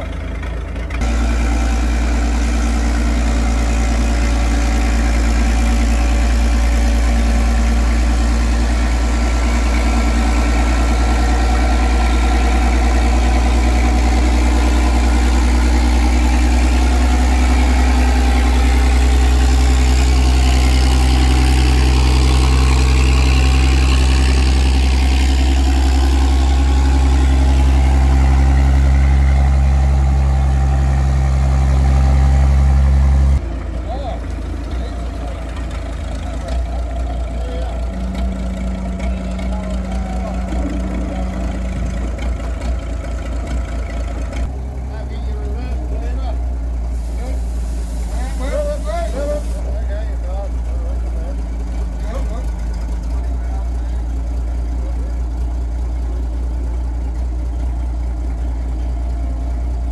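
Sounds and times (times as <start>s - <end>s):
forklift engine running: 0.0s - 59.9s.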